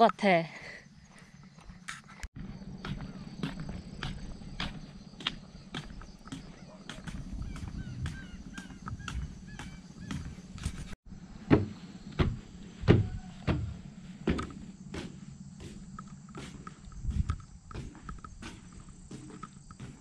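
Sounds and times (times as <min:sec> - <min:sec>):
footsteps on a trail: 0:00.0 - 0:11.0, 0:11.6 - 0:20.0.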